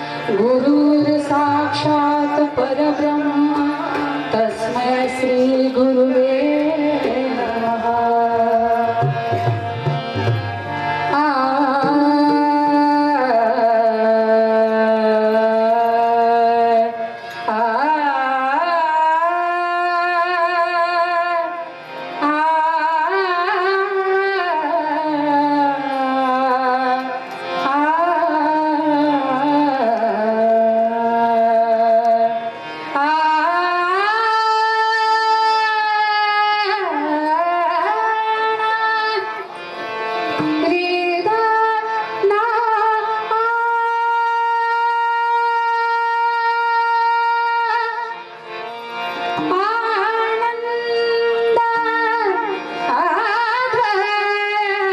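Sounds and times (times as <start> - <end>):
woman singing devotional song: 0.0 - 54.9.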